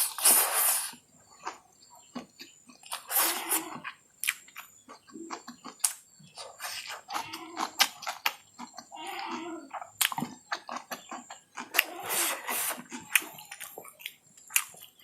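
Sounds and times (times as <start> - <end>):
wet chewing and lip smacking: 1.4 - 15.0.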